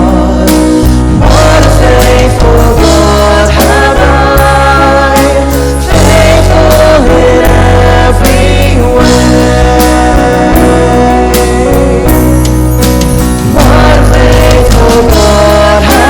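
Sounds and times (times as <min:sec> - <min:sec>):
band playing with bass: 0:00.0 - 0:16.0
group of voices singing: 0:00.0 - 0:16.0.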